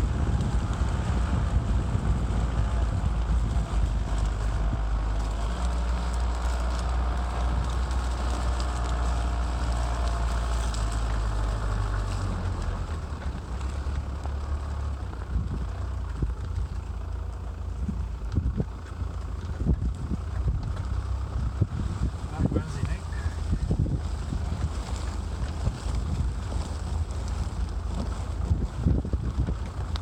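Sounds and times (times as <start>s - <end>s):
motocross motorcycle engines: 0.0s - 30.0s
wind rumble on microphone: 0.0s - 30.0s.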